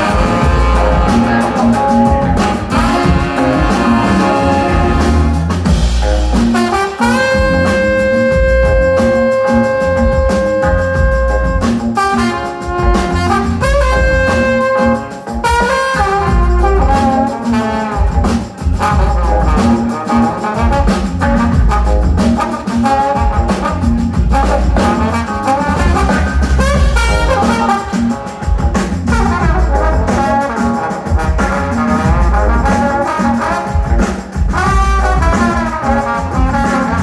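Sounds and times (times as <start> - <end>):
live band with horn section: 0.0 - 37.0.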